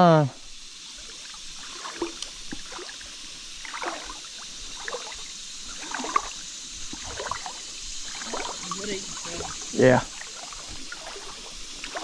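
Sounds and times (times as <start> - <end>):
steady high hiss: 0.0 - 12.0
creek water splashing: 0.4 - 12.0.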